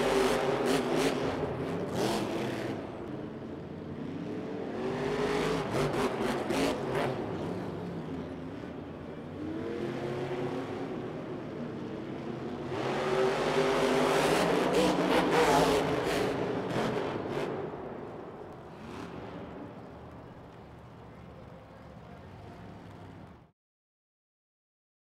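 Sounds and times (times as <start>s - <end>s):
monster truck engines revving: 0.0s - 23.5s.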